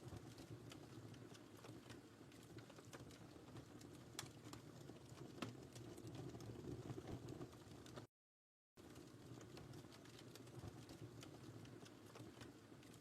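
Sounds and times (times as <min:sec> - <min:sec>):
low rumble of burning fire: 0:00.0 - 0:08.1, 0:08.8 - 0:13.0
wood fire pops and snaps: 0:00.0 - 0:08.1, 0:08.8 - 0:13.0.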